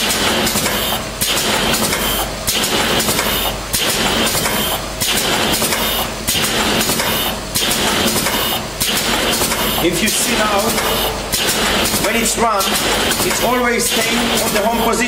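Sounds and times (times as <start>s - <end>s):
glue machine mechanical clatter: 0.0s - 15.0s.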